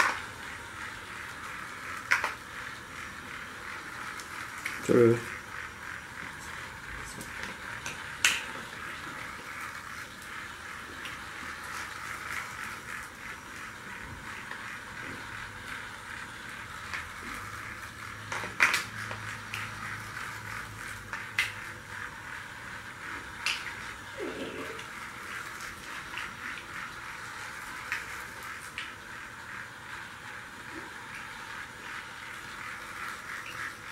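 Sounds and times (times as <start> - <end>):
toy train whirring rattle: 0.0 - 33.9.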